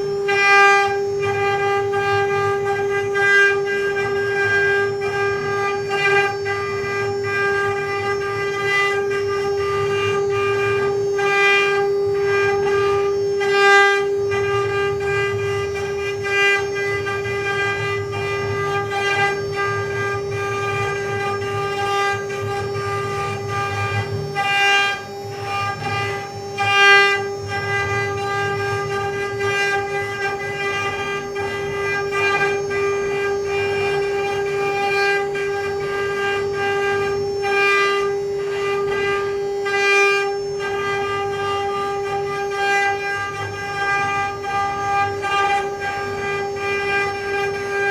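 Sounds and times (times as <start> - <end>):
router spindle high-pitched whine: 0.0 - 47.9.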